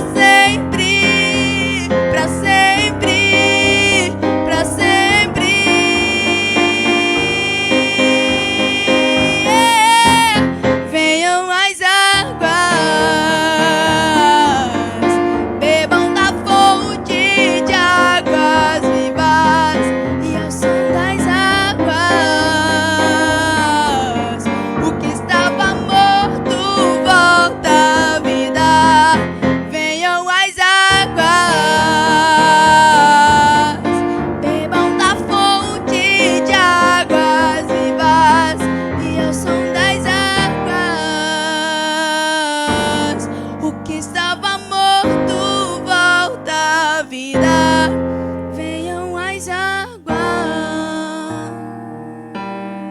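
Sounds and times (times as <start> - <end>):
instrumental accompaniment: 0.0 - 11.0, 12.4 - 29.8, 31.0 - 48.5
person singing with vibrato: 0.0 - 52.9.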